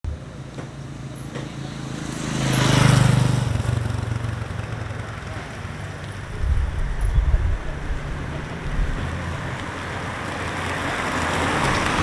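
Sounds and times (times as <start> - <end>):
motor vehicle passing by: 0.1 - 12.0.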